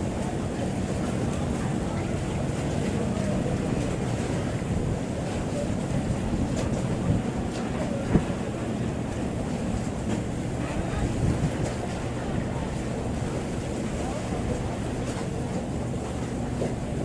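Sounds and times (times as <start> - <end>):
wind buffeting microphone: 0.0 - 15.0
boat engine rumble: 0.0 - 17.0.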